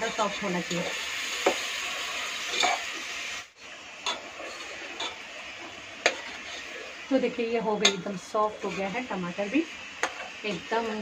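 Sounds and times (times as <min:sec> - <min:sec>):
masala sizzling in a pot: 0:00.0 - 0:11.0.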